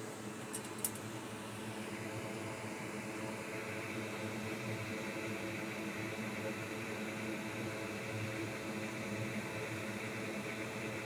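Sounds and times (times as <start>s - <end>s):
faint hum: 0.0s - 11.0s
fan whirring: 0.0s - 11.0s.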